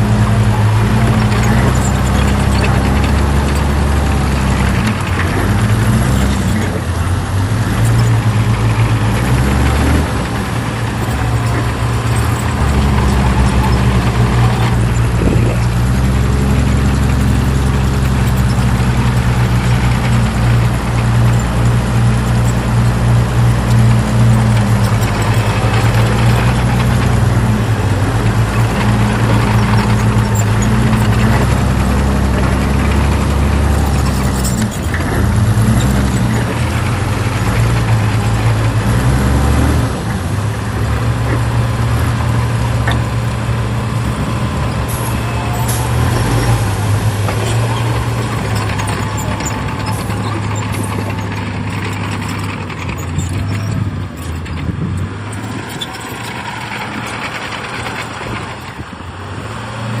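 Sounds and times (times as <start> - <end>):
heavy diesel machinery engine: 0.0 - 60.0.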